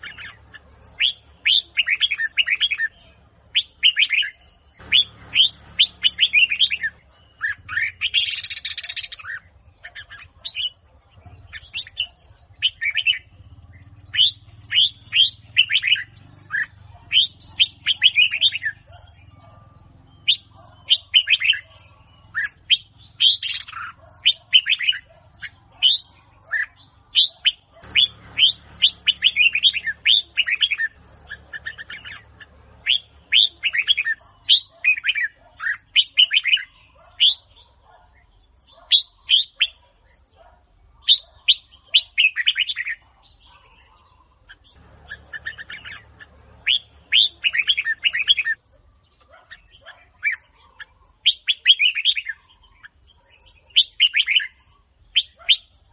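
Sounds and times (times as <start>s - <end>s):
bird chirping song: 0.0s - 55.9s.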